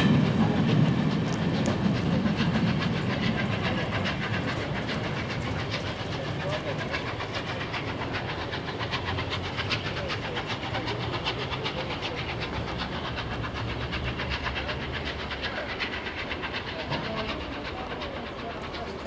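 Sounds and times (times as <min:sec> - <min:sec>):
steam train low rumble: 0:00.0 - 0:19.0
train wheels clicking over rail joints: 0:00.0 - 0:19.0.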